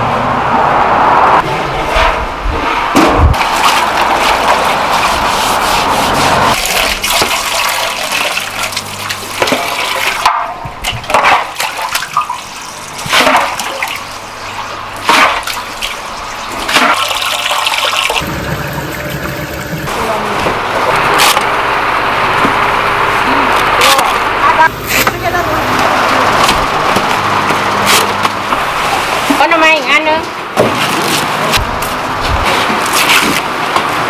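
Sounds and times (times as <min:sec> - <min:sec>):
water splashing and gushing: 0:01.9 - 0:24.0, 0:25.7 - 0:34.0.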